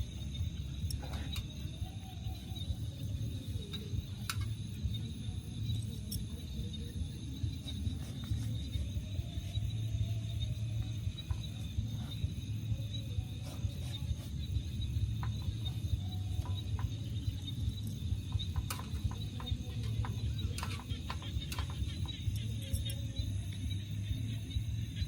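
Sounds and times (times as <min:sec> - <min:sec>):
insects trilling: 0:00.0 - 0:25.0.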